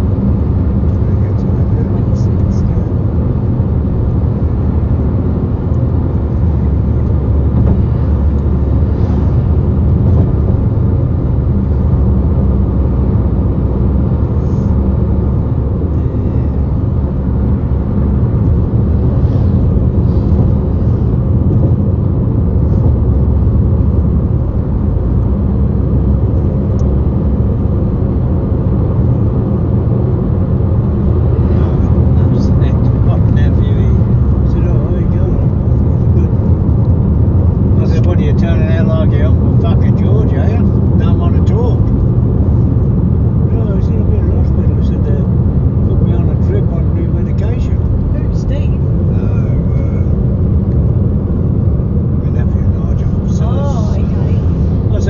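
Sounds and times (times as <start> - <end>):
bus engine and tyre rumble: 0.0 - 55.0.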